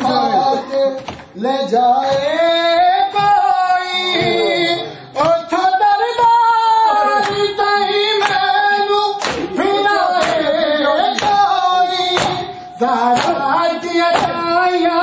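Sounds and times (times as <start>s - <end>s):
man singing a lament: 0.0s - 15.0s
men beating their chests: 0.0s - 15.0s.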